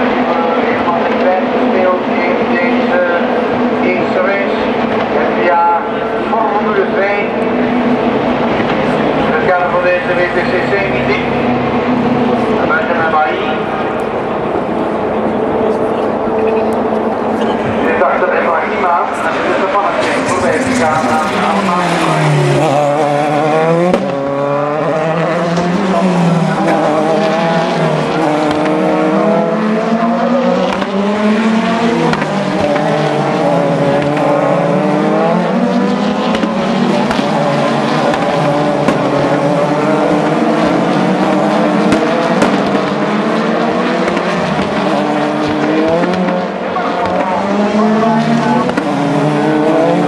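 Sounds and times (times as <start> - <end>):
racing car engines: 0.0 - 50.0.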